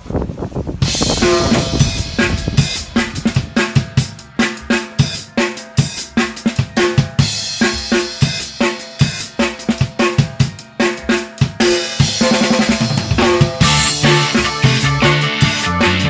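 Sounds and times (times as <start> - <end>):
upbeat music with drum beat: 0.8 - 16.0.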